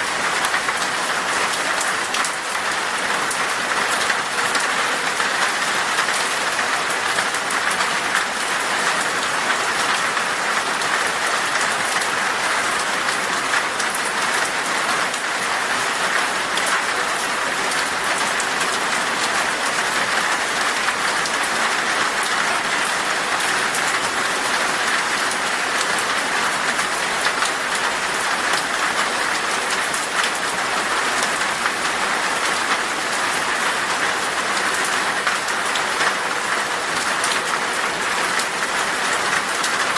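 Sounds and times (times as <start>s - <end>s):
heavy rain on glass: 0.0s - 39.9s.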